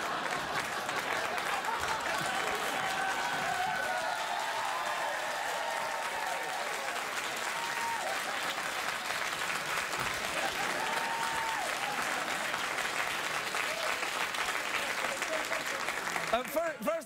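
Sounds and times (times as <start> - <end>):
audience clapping and cheering: 0.0 - 17.0.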